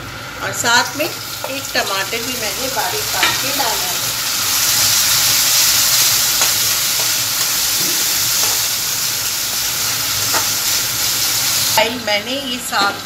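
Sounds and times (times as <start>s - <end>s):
onion and tomato sizzling in pan: 0.0s - 13.0s.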